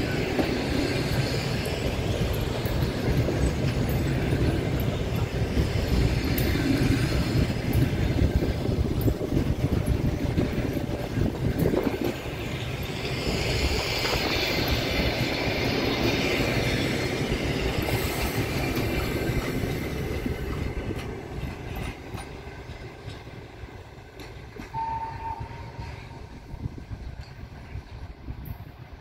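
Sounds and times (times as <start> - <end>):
train wheels rumbling: 0.0 - 29.0
wheels clicking over rail joints: 0.0 - 29.0.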